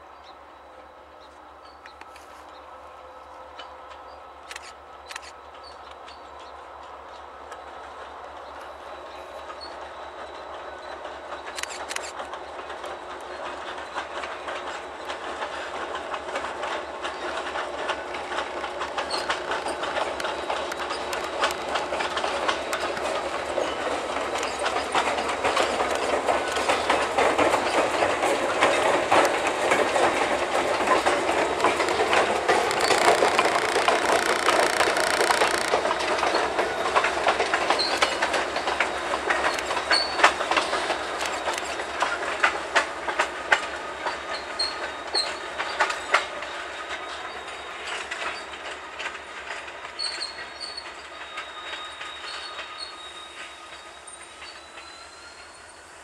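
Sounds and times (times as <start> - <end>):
diesel locomotive passing: 0.0 - 56.0
wheels clacking over rail joints: 3.6 - 55.6.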